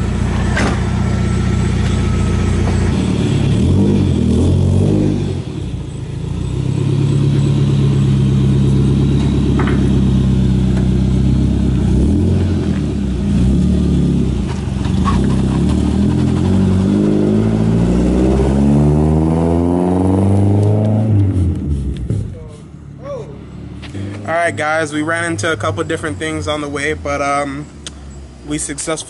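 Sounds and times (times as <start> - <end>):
car engine under load: 0.0 - 29.0.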